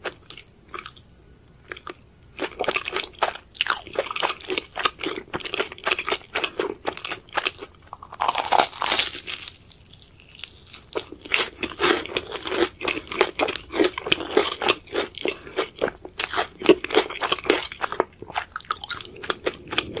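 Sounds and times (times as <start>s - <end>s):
crunching and chewing: 0.0s - 20.0s.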